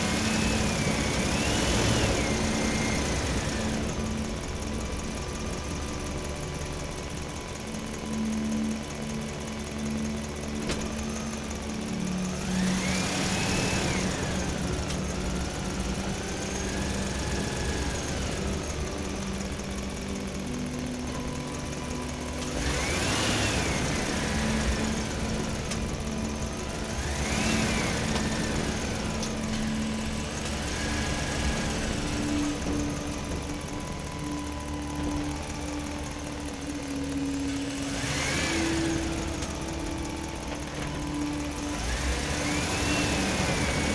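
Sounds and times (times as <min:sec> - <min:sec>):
diesel engine running: 0:00.0 - 0:43.9
hydraulic whine: 0:00.0 - 0:43.9.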